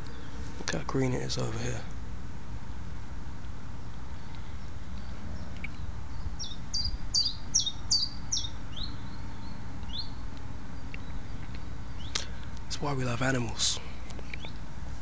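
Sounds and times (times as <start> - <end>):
songbird singing: 0.0 - 2.0, 3.7 - 15.0
low background noise: 0.0 - 15.0.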